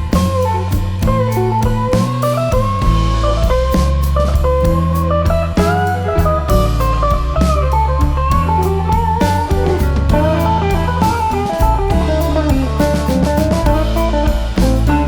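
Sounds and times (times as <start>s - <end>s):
bluesy electric guitar instrumental: 0.0s - 15.0s.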